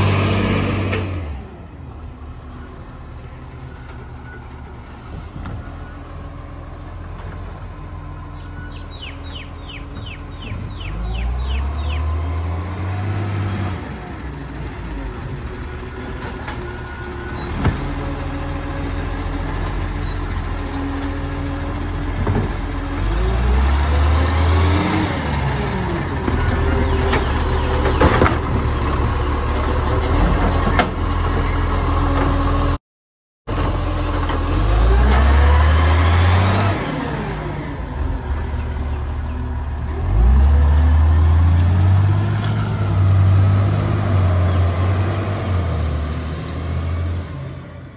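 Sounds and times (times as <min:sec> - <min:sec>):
diesel engine revving: 0:00.0 - 0:32.8, 0:33.5 - 0:47.9.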